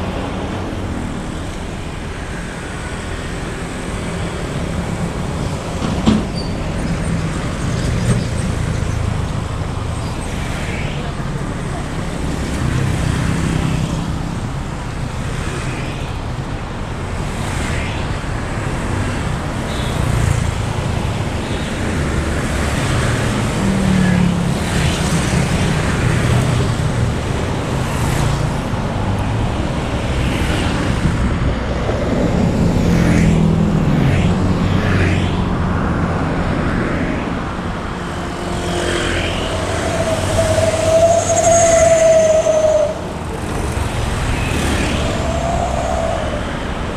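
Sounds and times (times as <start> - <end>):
traffic passing by: 0.0 - 46.9.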